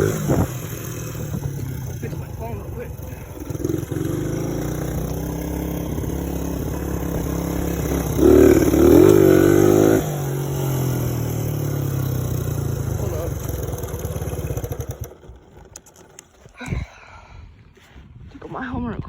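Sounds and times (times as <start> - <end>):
dirt bike engine running and revving: 0.0 - 16.9.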